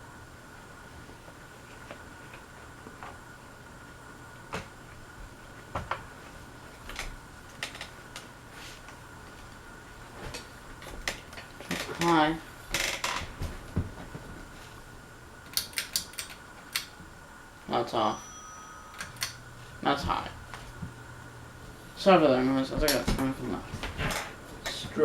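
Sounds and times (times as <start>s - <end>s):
ceiling fan whine: 0.0s - 25.0s.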